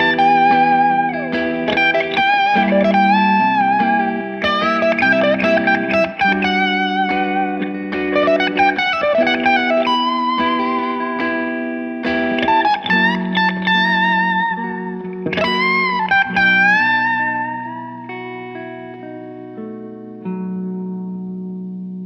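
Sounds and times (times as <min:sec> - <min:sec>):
electric guitar playing: 0:00.0 - 0:22.0.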